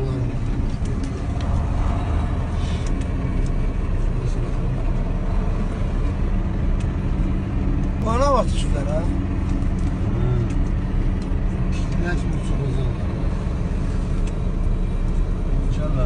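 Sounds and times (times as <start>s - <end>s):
vehicle engine and road noise: 0.0s - 16.0s.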